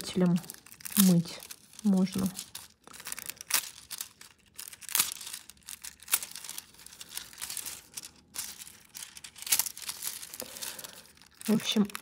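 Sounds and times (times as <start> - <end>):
foil crinkling: 0.0 - 12.0.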